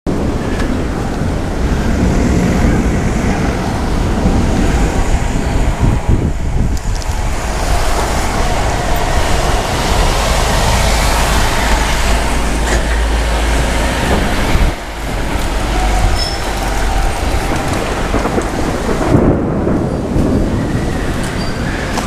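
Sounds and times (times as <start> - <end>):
heavy rain: 0.1 - 22.0
wind buffeting microphone: 0.1 - 22.0.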